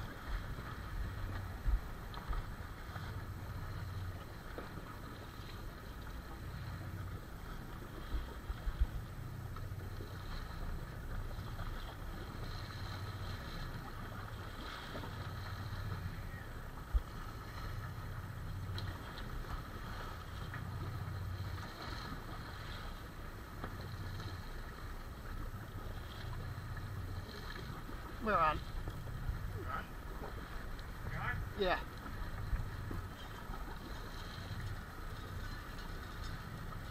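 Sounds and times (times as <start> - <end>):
low rumble: 0.0 - 36.9
water noise: 0.0 - 36.9
wind: 0.0 - 36.9.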